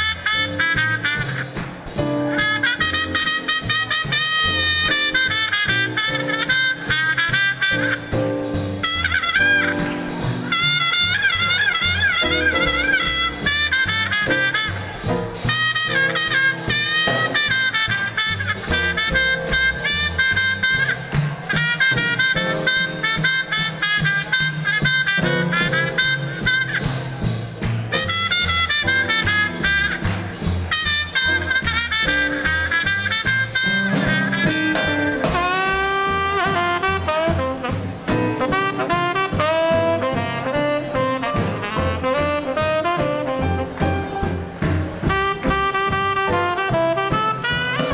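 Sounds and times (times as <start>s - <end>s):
horn melody with vibrato: 0.0s - 1.7s, 2.3s - 44.4s, 45.0s - 47.9s
drums: 0.0s - 47.9s
piano: 0.0s - 47.9s
walking bass: 0.0s - 47.9s.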